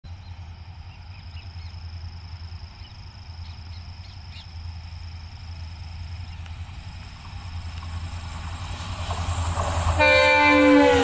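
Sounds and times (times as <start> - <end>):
steady low rumble: 0.1 - 10.0.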